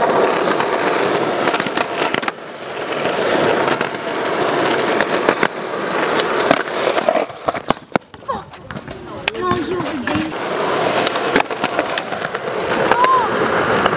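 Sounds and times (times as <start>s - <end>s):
skateboard tail clack: 0.0s - 13.9s
skateboard wheels rolling on concrete: 0.0s - 13.9s.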